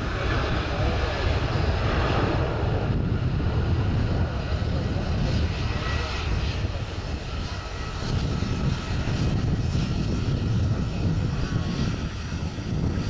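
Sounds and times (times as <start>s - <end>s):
faint engine whine: 0.0s - 13.0s
jet engines rumbling: 0.0s - 13.0s.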